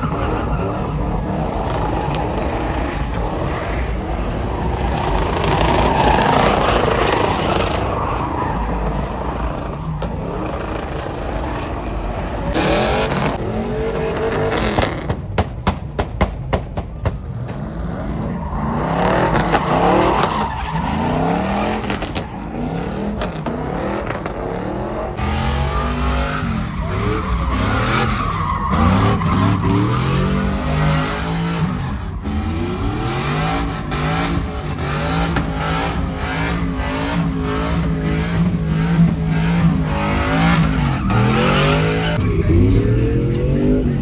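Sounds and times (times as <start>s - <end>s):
tires squealing and skidding: 0.0s - 44.0s
vehicle engines revving: 0.0s - 44.0s.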